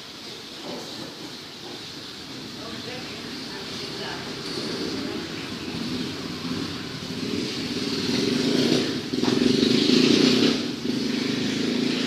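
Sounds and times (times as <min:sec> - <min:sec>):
vehicle engine running: 0:01.6 - 0:12.0.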